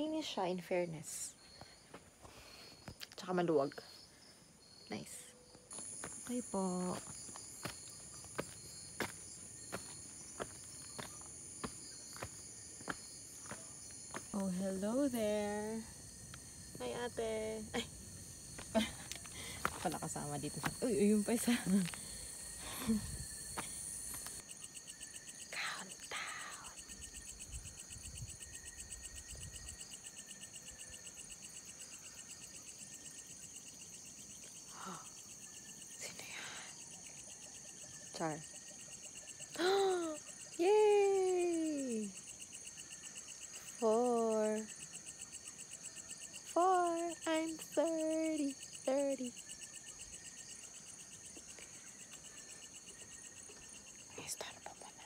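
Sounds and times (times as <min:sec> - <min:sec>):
crickets and insects trilling: 0:00.0 - 0:55.0.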